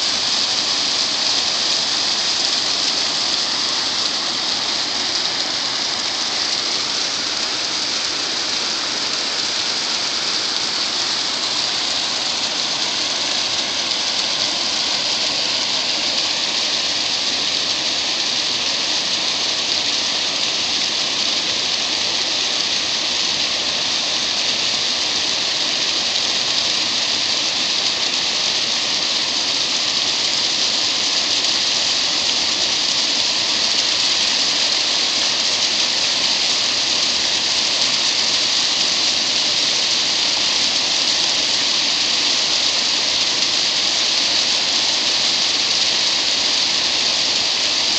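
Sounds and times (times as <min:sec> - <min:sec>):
water rushing over dam: 0:00.0 - 0:47.9.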